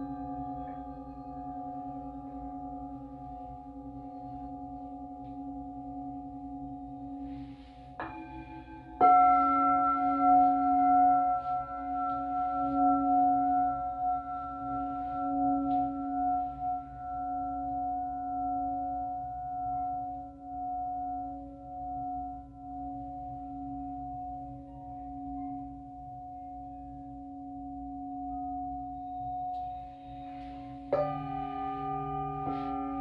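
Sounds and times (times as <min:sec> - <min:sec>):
singing bowls ringing: 0:00.0 - 0:33.0.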